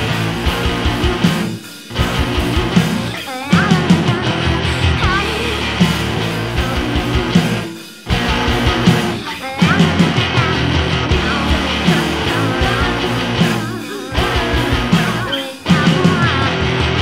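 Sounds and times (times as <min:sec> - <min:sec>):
bass guitar: 0:00.0 - 0:17.0
drums: 0:00.0 - 0:17.0
person singing: 0:00.0 - 0:17.0.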